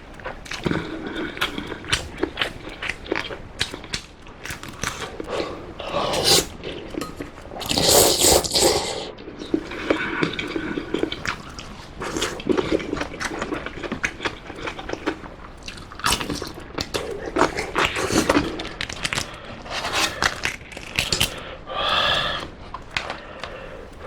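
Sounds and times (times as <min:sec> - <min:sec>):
wet chewing and slurping: 0:00.0 - 0:24.0.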